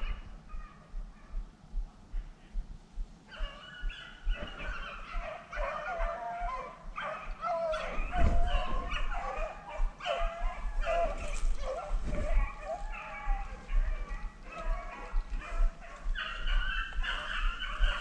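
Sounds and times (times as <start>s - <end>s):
dogs baying and yipping: 0.0s - 1.4s, 3.3s - 18.0s.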